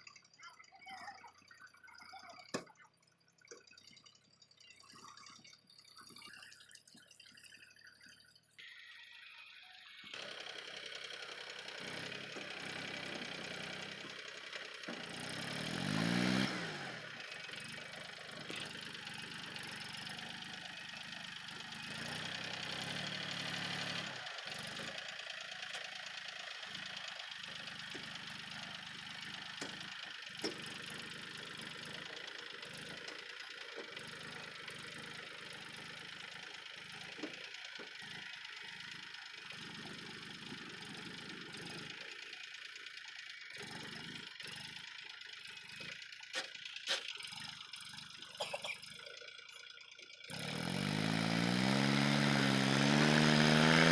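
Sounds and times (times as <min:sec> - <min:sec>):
tractor diesel engine revving: 0:10.1 - 0:53.9.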